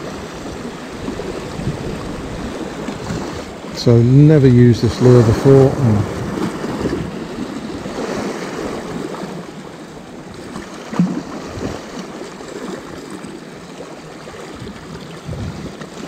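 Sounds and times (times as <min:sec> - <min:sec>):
sea washing over rocks: 0:00.0 - 0:16.0.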